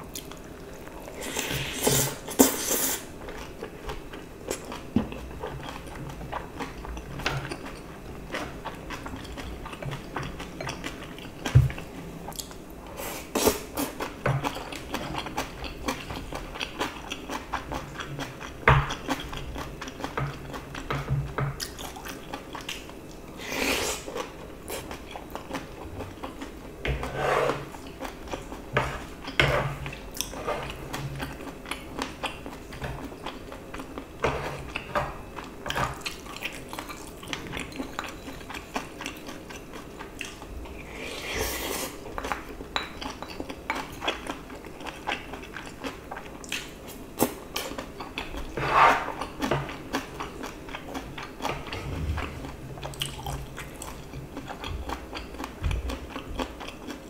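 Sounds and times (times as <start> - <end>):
chewing: 0.1 - 12.6, 13.8 - 21.0, 21.6 - 23.1, 24.0 - 41.1, 41.8 - 57.0.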